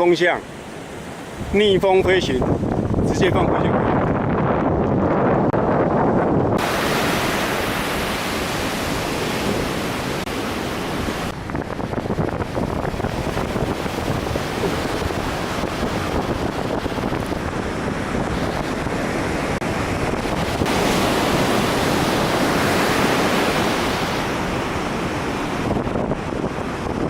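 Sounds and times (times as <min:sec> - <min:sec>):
wind buffeting microphone: 0:00.6 - 0:27.0.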